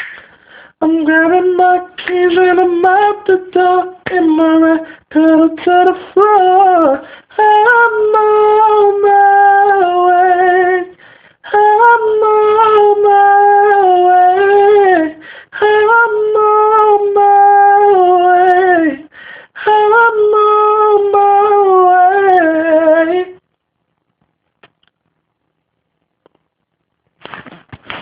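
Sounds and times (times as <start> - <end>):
person singing wordlessly: 0.8 - 23.4.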